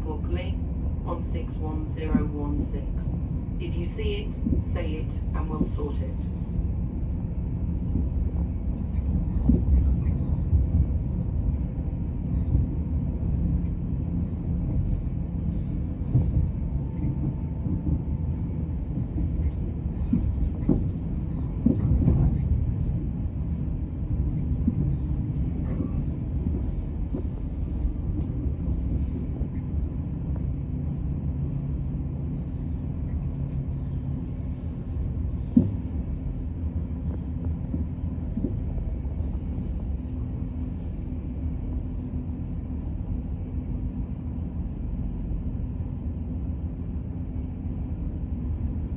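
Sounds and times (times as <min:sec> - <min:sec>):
train rumbling from inside carriage: 0:00.0 - 0:48.9.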